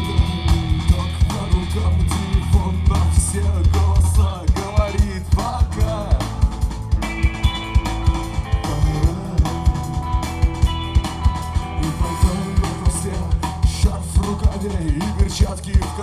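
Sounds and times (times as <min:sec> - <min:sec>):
drum kit beat: 0:00.0 - 0:16.0
guitar: 0:00.0 - 0:16.0.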